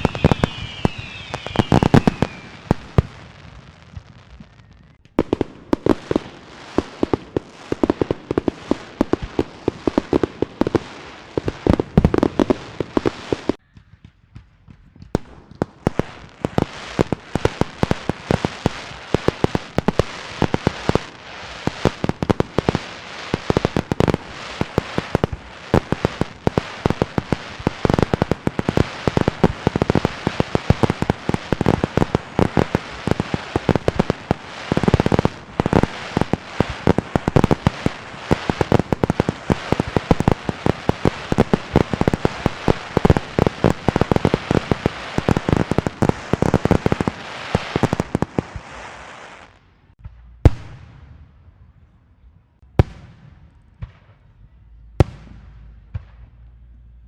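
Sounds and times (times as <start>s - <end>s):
fireworks and firecrackers popping: 0.0s - 51.4s.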